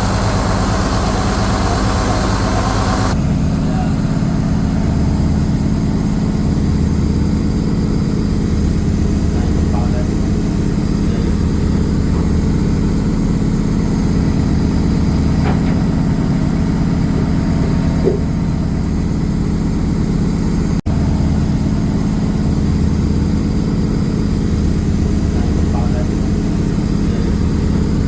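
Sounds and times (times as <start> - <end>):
refrigeration compressor humming: 0.0 - 28.0.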